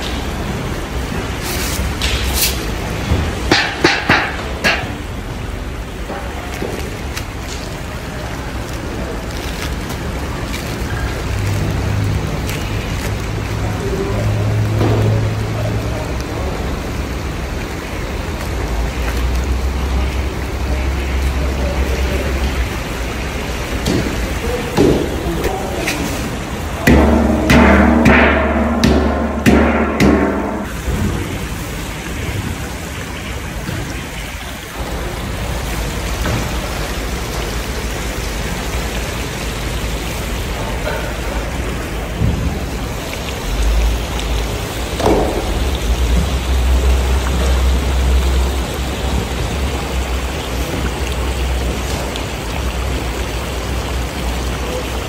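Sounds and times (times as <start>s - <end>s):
broth boiling in pot: 0.0s - 55.0s.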